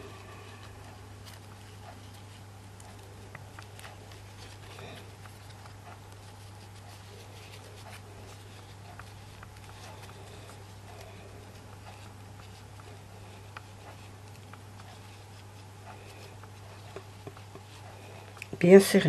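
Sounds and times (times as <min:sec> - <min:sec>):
steady low hum: 0:00.0 - 0:19.0
clicks and rustles of handling: 0:00.6 - 0:19.0.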